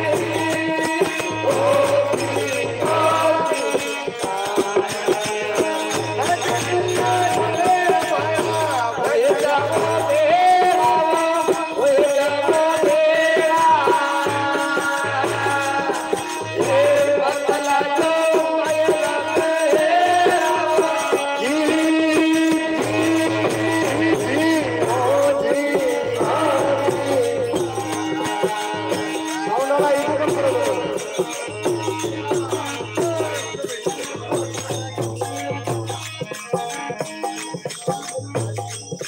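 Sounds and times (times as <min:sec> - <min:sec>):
devotional singing into microphone: 0:00.0 - 0:36.6
rattling hand percussion: 0:00.0 - 0:39.0.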